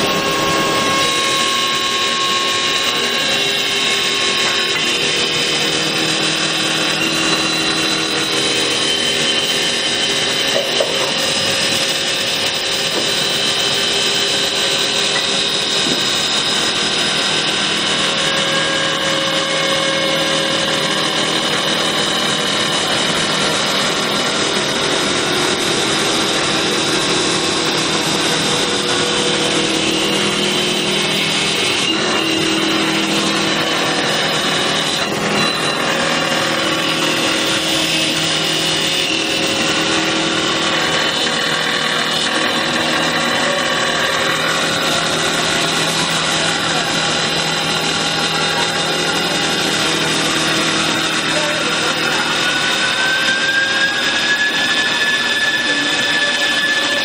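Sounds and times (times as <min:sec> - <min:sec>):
cutter rasping spinning wood: 0:00.0 - 0:57.0
lathe motor whine: 0:00.0 - 0:57.0.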